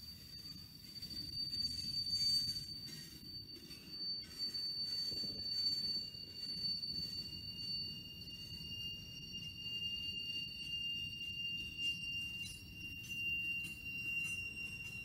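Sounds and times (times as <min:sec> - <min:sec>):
high-pitched whine: 0:00.0 - 0:15.0
lower whine: 0:00.0 - 0:15.0.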